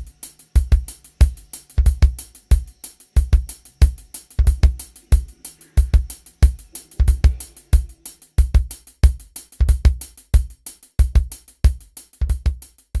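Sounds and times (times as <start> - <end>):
cymbal ticks: 0.0 - 12.8
kick and snare drum beat: 0.0 - 13.0.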